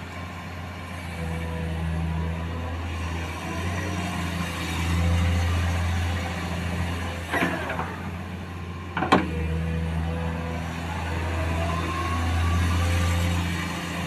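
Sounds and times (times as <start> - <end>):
excavator diesel engine droning: 0.0 - 14.0.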